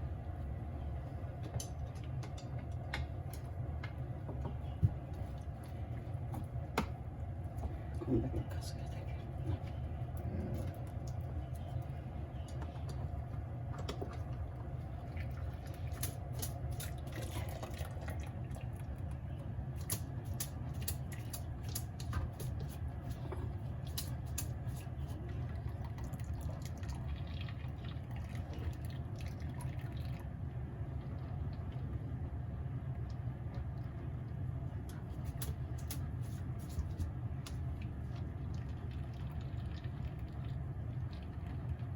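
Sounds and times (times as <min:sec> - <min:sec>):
steady low rumble: 0:00.0 - 0:41.9
broth dripping and trickling: 0:07.2 - 0:41.9.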